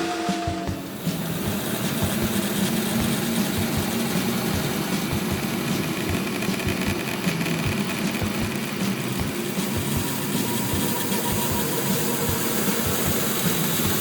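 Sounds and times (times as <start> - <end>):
farm vehicle engine idling: 0.0 - 14.0.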